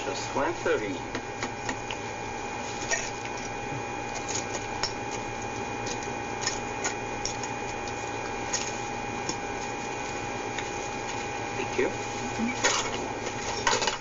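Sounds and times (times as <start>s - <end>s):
thin electrical whine: 0.0s - 14.0s.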